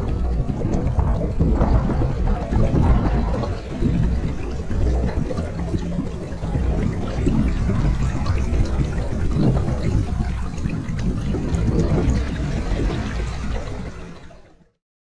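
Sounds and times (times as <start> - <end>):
wind buffeting microphone: 0.0 - 14.4
water splashing along hull: 0.0 - 14.7.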